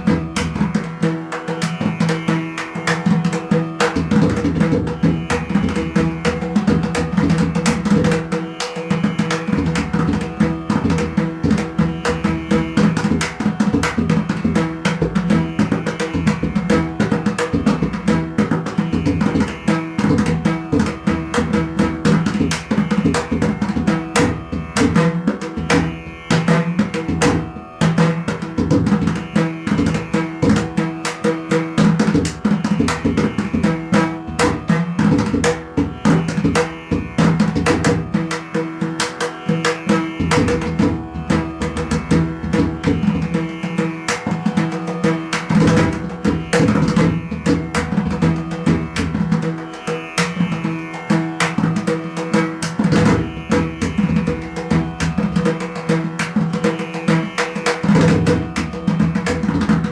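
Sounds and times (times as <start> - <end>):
steady drone: 0.0 - 59.9.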